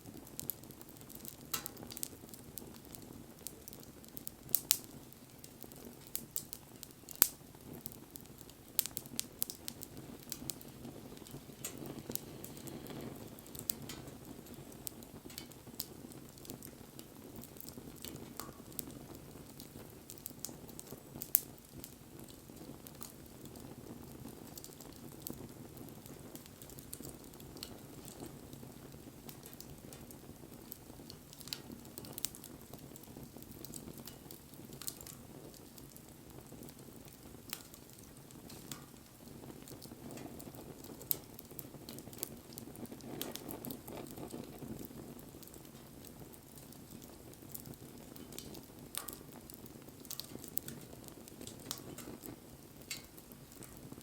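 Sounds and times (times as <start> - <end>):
fire crackles and pops: 0.0 - 54.0
low rush of flames: 0.0 - 54.0.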